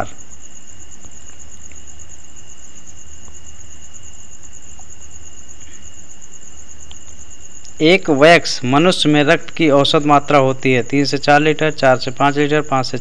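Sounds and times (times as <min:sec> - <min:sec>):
high-pitched insect trill: 0:00.0 - 0:13.0
low background hum: 0:00.0 - 0:13.0.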